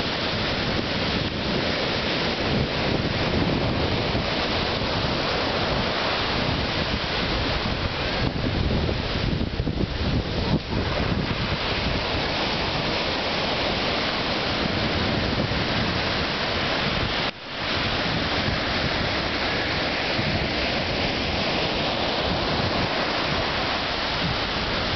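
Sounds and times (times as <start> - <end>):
surf breaking on beach: 0.0 - 24.9
wind buffeting microphone: 0.0 - 24.9.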